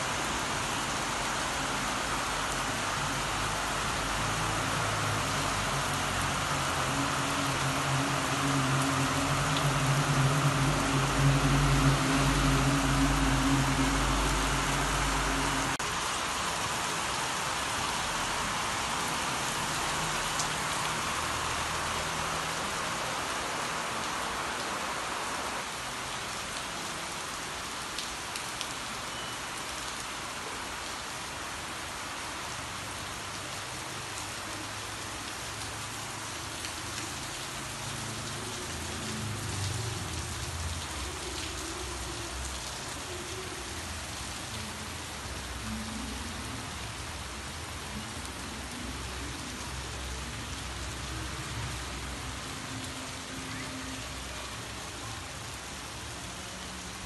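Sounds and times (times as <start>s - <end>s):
heavy rain on roofs: 0.0s - 57.0s.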